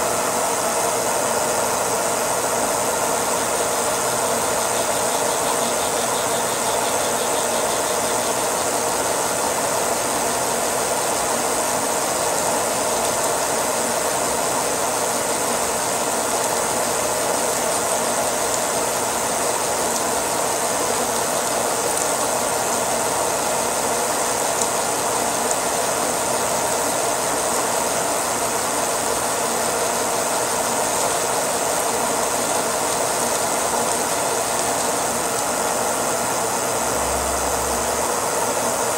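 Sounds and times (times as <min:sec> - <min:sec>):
coolant mist hissing: 0:00.0 - 0:38.9.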